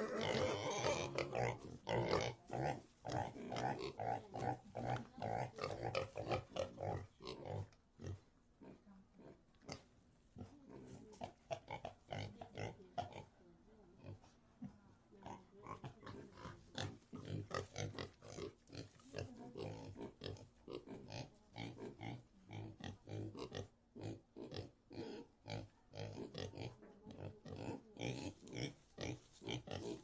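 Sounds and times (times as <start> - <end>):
pigs grunting and oinking: 0.0 - 13.3, 14.0 - 30.0.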